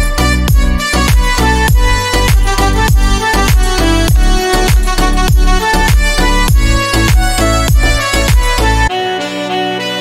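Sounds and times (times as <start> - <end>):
dance music with kick drum: 0.0 - 8.9.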